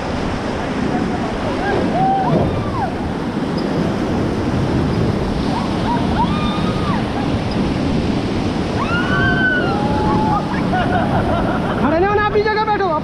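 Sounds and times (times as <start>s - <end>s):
river rapids rushing: 0.0s - 13.0s
wind buffeting microphone: 0.0s - 13.0s.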